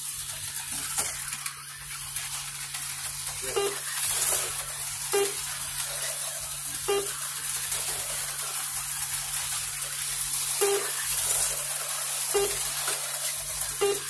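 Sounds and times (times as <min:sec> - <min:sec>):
slot car motors whirring: 0:00.0 - 0:14.0.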